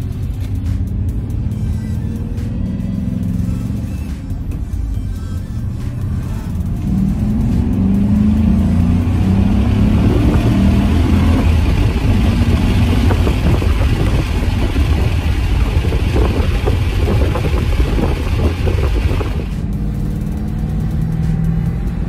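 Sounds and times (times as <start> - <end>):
car engine running: 0.0 - 22.0
road noise: 0.0 - 22.0.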